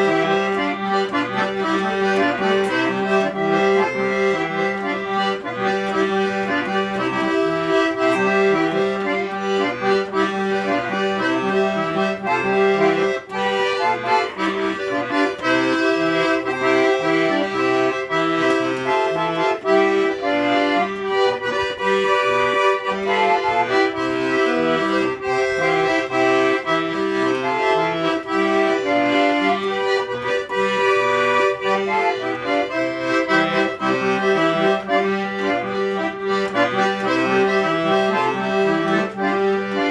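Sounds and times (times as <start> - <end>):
accordion playing melody: 0.0 - 39.9.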